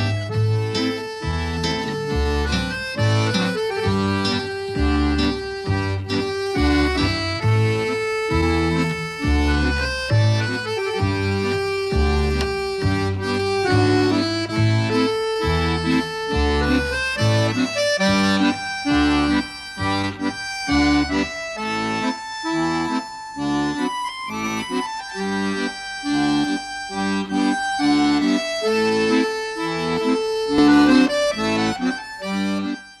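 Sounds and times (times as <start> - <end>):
accordion music: 0.0 - 33.0.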